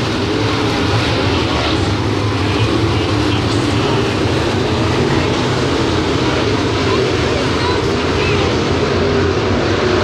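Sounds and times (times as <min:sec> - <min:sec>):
race car engines droning: 0:00.0 - 0:10.0.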